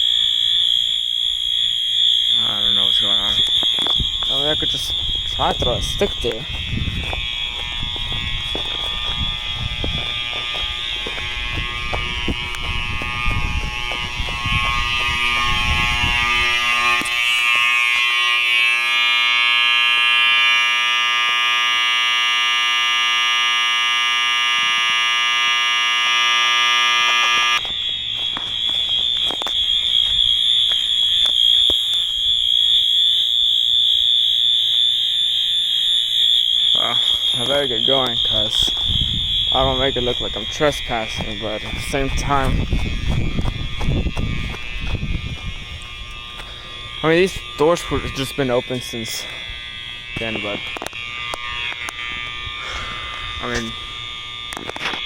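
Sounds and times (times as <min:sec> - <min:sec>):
high-pitched electronic alarm tone: 0:00.0 - 0:55.0.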